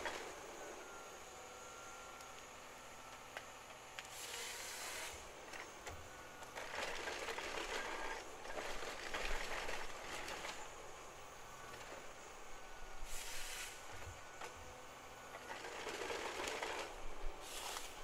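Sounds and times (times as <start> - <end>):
mechanical working noise: 0.0 - 18.0.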